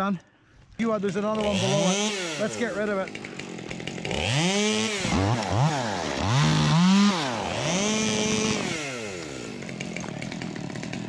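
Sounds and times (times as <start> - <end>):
chainsaw revving: 0.9 - 11.0.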